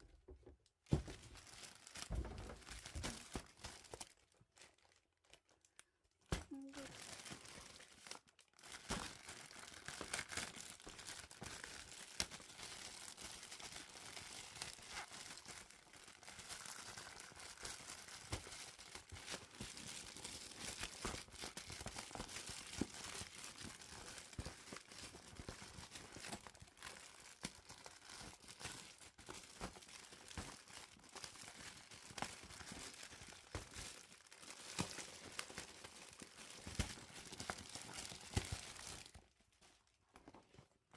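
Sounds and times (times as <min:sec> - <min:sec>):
packaging crinkling and tearing: 0:00.9 - 0:40.3.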